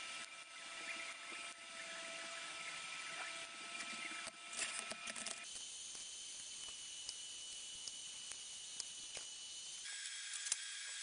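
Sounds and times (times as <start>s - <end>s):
welding hiss with high whine: 0.0s - 11.0s.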